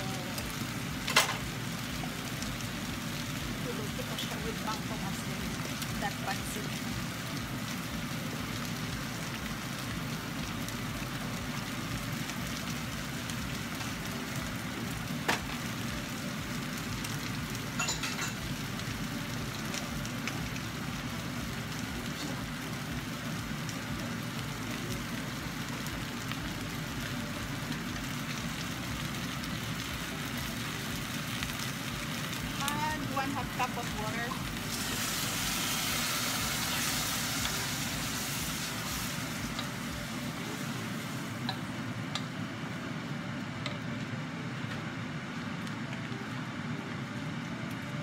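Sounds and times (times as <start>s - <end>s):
chicken sizzling in a saucepan: 0.0s - 48.0s.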